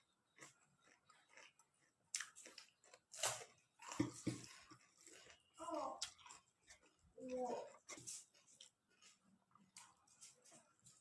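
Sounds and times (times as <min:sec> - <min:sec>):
person crunching and chewing: 0:00.0 - 0:11.0.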